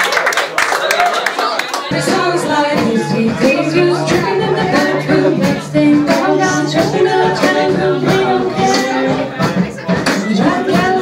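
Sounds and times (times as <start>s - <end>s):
live band playing: 1.9s - 11.0s
person singing: 1.9s - 11.0s.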